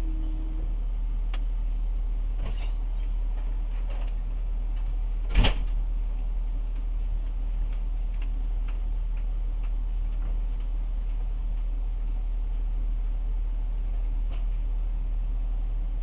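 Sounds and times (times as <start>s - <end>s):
train carriage hum: 0.0s - 16.0s.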